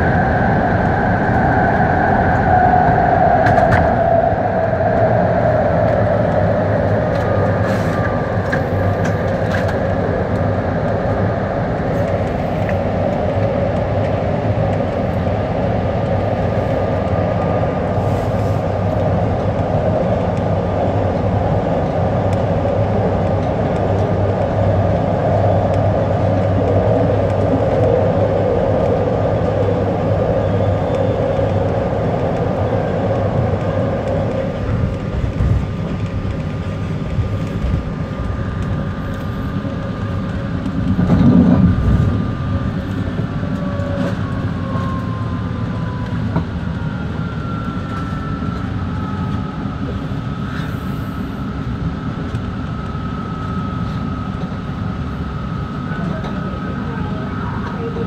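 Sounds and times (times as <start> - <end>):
train roaring through tunnel: 0.0 - 58.0
train wheels and motors: 0.0 - 58.0.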